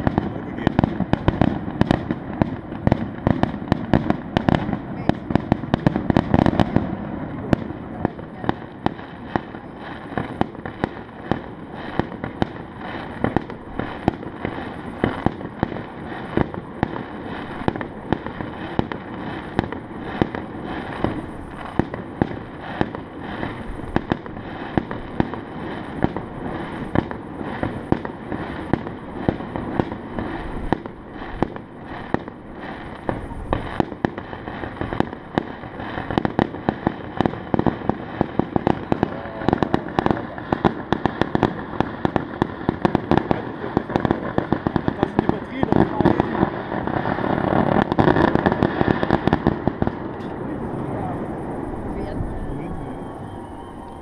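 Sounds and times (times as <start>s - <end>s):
fireworks cracking and banging: 0.0s - 54.0s.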